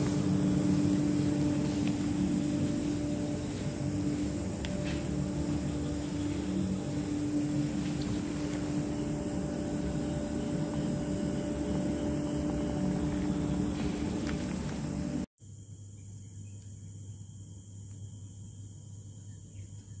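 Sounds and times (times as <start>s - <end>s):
mechanical hum with low rumble: 0.0s - 20.0s.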